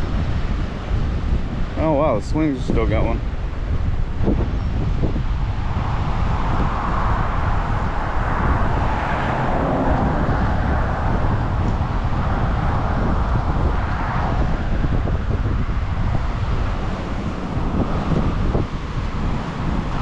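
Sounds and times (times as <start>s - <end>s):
wind buffeting microphone: 0.0s - 20.0s
surf rushing: 1.6s - 20.0s.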